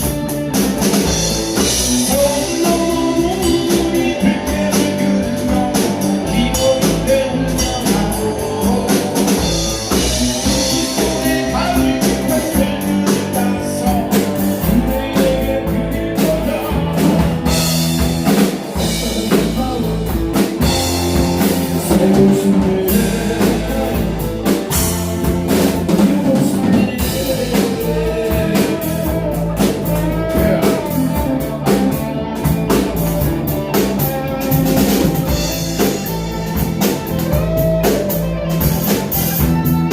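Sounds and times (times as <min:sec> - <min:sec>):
band with guitar and drums: 0:00.0 - 0:39.9.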